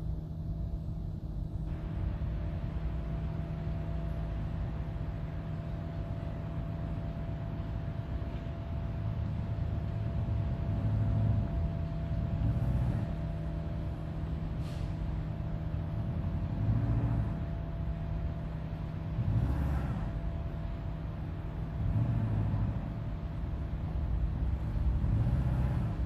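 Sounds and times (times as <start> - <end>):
thin steady whine: 0.0 - 25.1
car engine running at low speed: 0.0 - 26.0.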